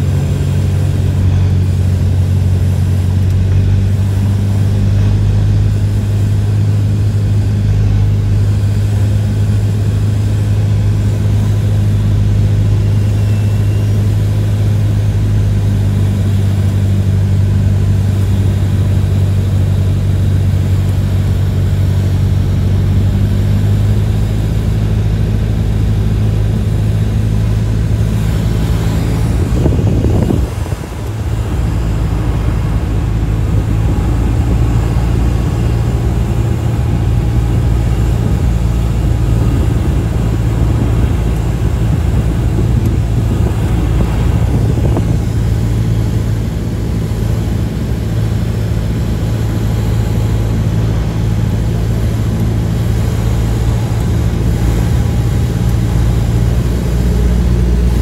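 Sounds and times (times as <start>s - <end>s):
light plane engine drone: 0.0s - 58.0s.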